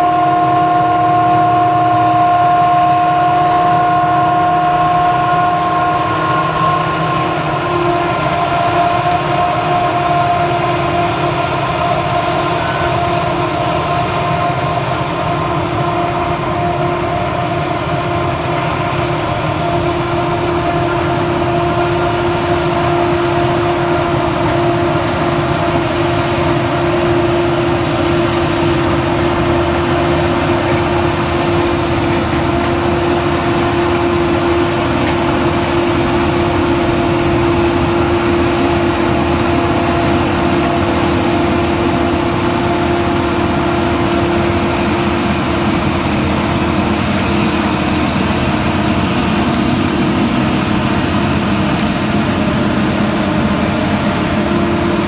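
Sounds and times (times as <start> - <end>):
forage harvester running: 0.0 - 55.0
machinery whine: 0.0 - 55.0
tractor engine: 0.0 - 55.0.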